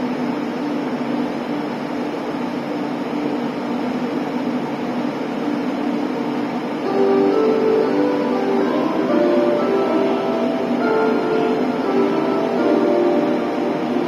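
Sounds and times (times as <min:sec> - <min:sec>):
electric train humming: 0:00.0 - 0:14.0
station background noise: 0:00.0 - 0:14.0.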